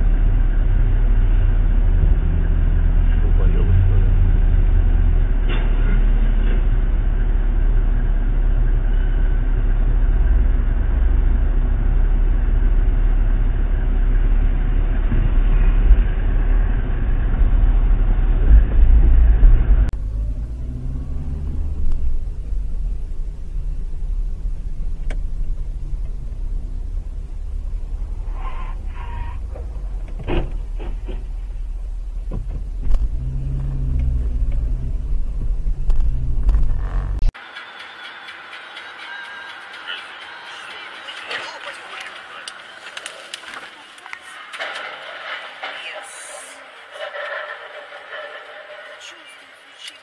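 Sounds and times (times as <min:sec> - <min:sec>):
car engine and tyres rumbling: 0:00.0 - 0:50.0.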